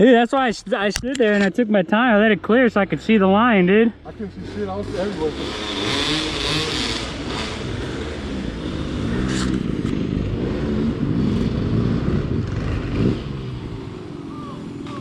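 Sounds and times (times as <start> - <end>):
dirt bike engine revving: 2.5 - 15.0.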